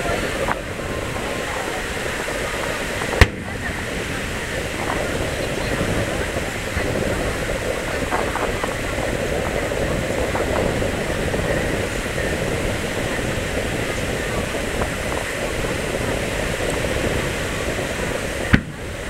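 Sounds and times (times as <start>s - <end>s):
crowd murmur: 0.0s - 19.0s
rushing background noise: 0.0s - 19.0s.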